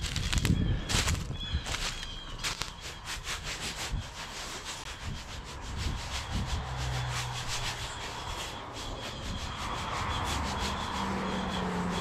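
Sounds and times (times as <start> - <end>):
footsteps through dry leaves: 0.0 - 12.0.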